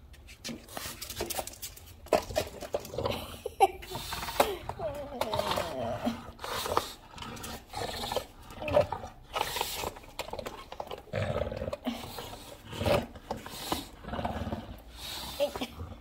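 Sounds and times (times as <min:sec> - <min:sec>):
dog growling and grunting: 0:02.2 - 0:16.0.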